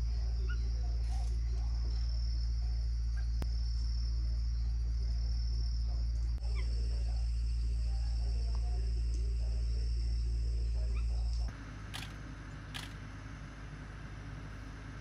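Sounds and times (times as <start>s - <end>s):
deep steady hum: 0.0s - 15.0s.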